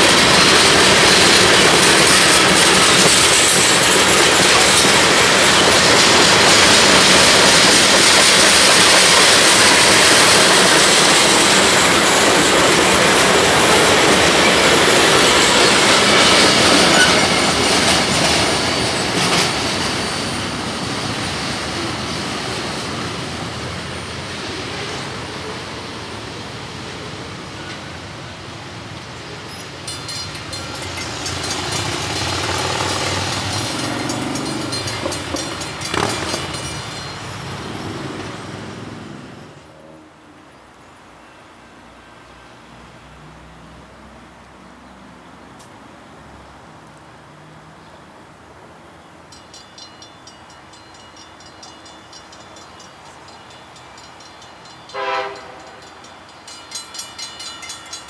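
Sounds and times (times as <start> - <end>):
freight train wheels clacking: 0.0 - 39.6, 49.3 - 58.0.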